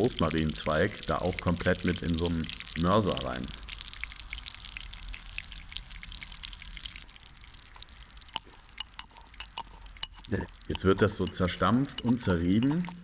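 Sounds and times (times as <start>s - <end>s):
fat crackling and sizzling: 0.0s - 13.0s.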